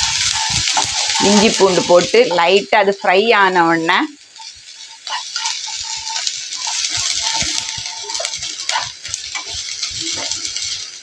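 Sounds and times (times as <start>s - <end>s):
spatula scraping a metal pan: 0.0s - 2.2s, 4.4s - 11.0s
food sizzling in hot oil: 0.0s - 11.0s.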